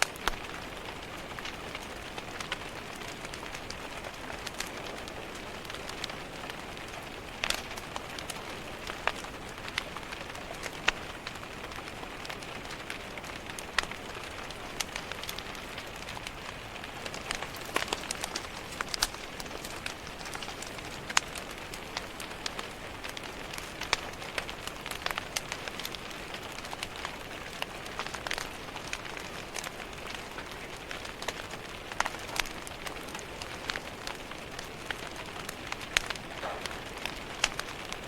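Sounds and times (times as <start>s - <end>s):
fireplace crackling: 0.0s - 38.0s
rain pattering on a window: 0.0s - 38.0s.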